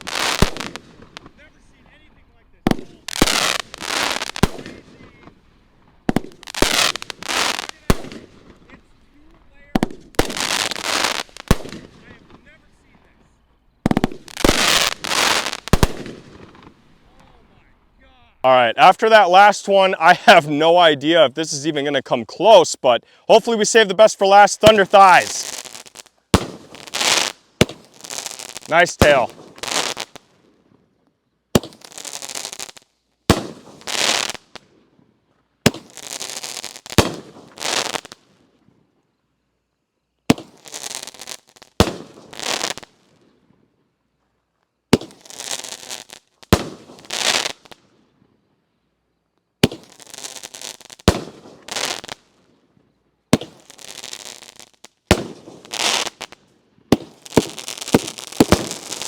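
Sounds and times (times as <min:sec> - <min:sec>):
fireworks bangs and crackle: 0:00.0 - 0:17.7, 0:18.6 - 0:30.8, 0:31.5 - 0:38.8, 0:40.2 - 0:43.6, 0:44.9 - 0:48.3, 0:49.6 - 0:59.0.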